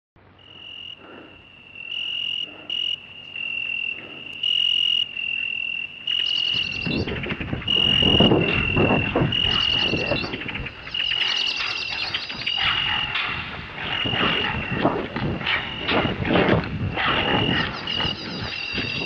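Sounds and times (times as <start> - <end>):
high steady whining tone: 0.2 - 19.0.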